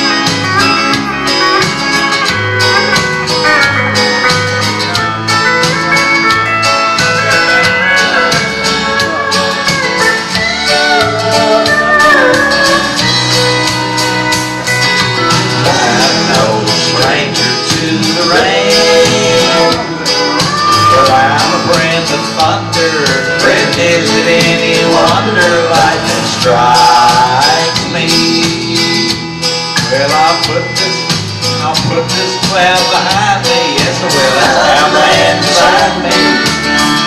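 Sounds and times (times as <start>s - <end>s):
country song instrumental: 0.0s - 37.0s
guitar chords: 0.0s - 37.0s
sliding lead melody: 0.0s - 37.0s.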